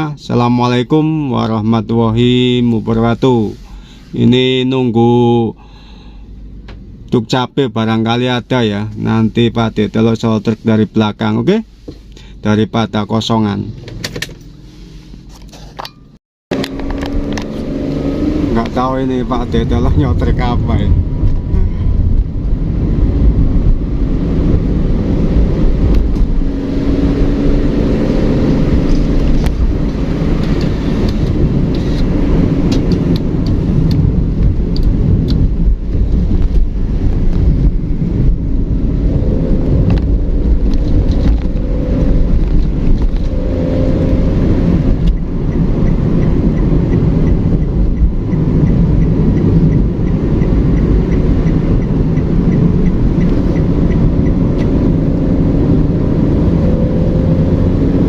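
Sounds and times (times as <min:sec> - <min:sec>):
road traffic rumble: 0:00.0 - 0:58.0
vehicles passing: 0:01.4 - 0:07.2, 0:07.9 - 0:58.0.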